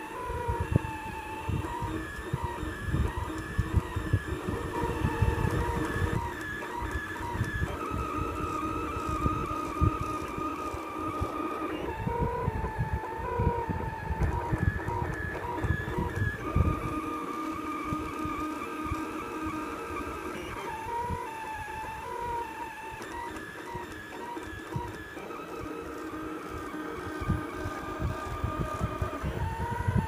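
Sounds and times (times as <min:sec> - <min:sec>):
stepper motors whining: 0:00.0 - 0:30.0.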